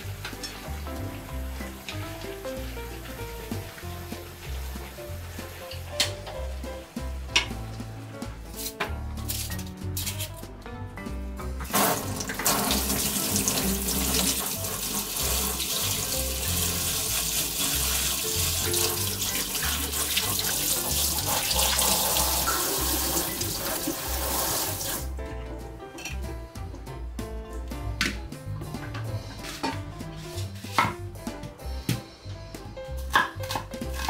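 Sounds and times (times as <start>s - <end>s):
music with steady beat: 0.0s - 19.2s, 22.4s - 34.0s.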